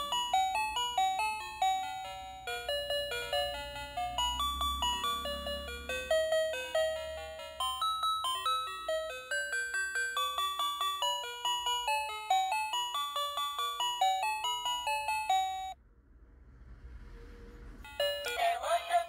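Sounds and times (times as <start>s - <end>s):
toy electronic jingle: 0.0s - 15.8s, 17.9s - 19.0s.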